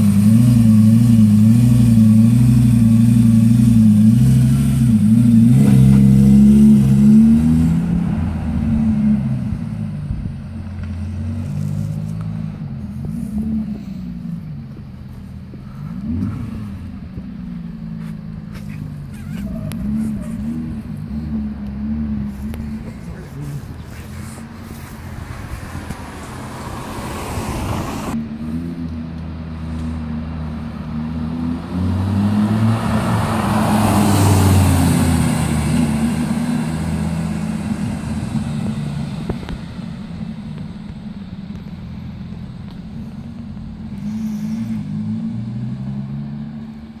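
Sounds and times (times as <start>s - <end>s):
sports car engine driving off: 0.0s - 47.0s.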